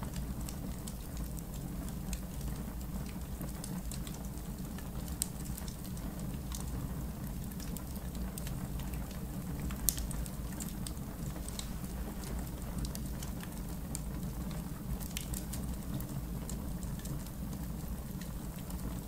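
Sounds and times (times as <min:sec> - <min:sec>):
fire crackling and popping: 0:00.0 - 0:19.0
low rumble of fire: 0:00.0 - 0:19.0.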